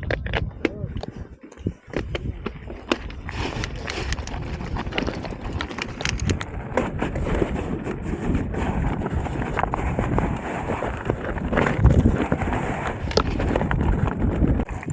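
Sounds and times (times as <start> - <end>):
tyres rumbling on stones: 0.0 - 14.9
wind buffeting microphone: 0.0 - 14.9
bike clicks and rattles: 1.4 - 14.9.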